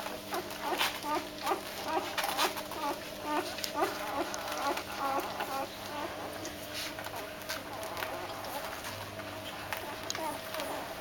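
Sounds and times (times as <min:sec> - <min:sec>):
puppies squeaking and whimpering: 0:00.0 - 0:11.0.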